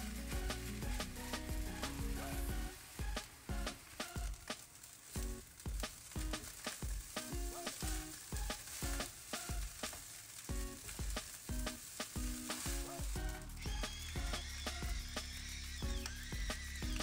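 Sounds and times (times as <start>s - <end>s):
spatula scraping and tossing rice: 0.0s - 17.0s
steady sizzle: 0.0s - 17.0s.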